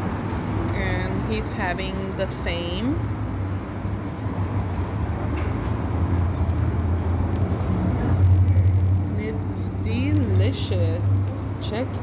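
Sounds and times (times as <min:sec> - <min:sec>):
noisy hiss: 0:00.0 - 0:12.0
road traffic rumble: 0:00.0 - 0:12.0.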